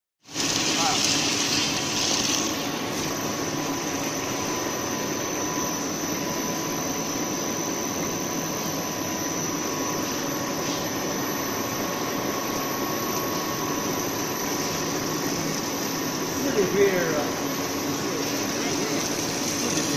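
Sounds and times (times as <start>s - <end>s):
extruder machine running: 0.2s - 19.9s.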